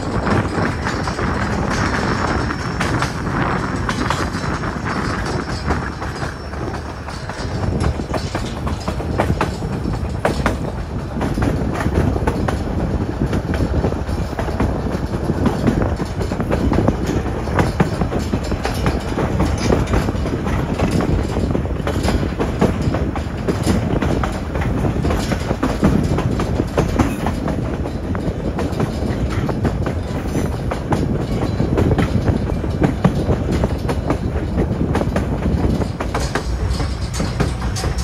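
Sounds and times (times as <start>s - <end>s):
train rumbling on track: 0.0s - 38.0s
wheels clicking over rail joints: 0.0s - 38.0s.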